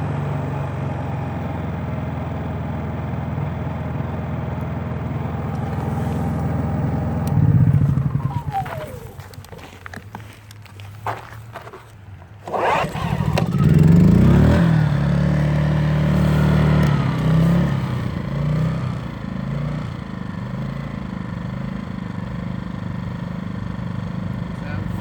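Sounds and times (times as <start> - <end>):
generator engine running: 0.0 - 25.0.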